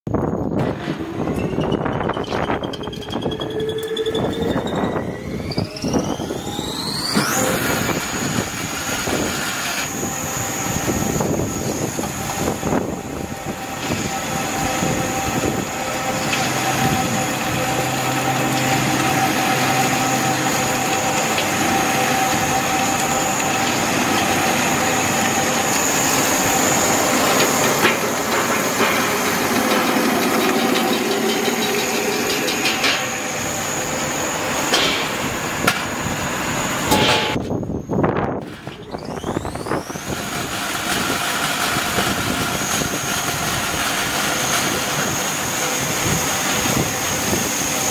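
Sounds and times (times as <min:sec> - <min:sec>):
grinding machine with high whine: 0:00.1 - 0:47.9.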